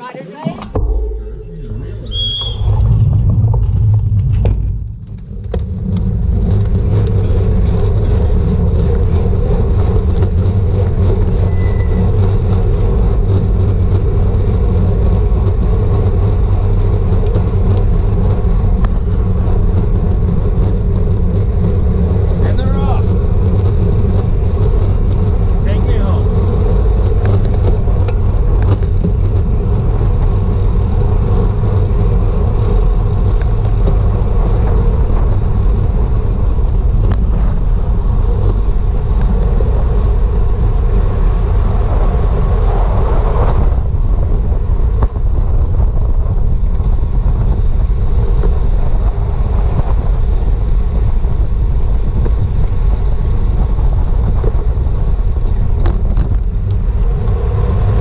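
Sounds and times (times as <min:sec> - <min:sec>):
wind buffeting microphone: 0:00.6 - 0:58.0.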